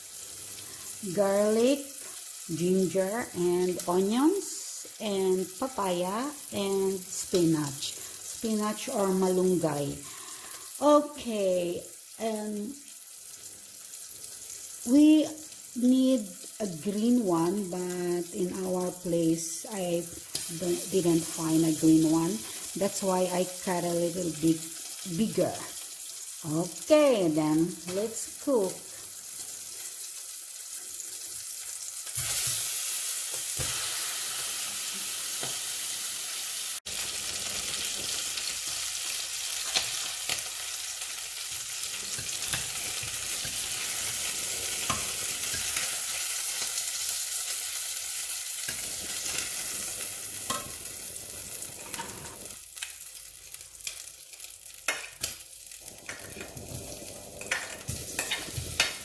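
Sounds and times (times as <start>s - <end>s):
oil sizzling in a pan: 0.0s - 59.0s.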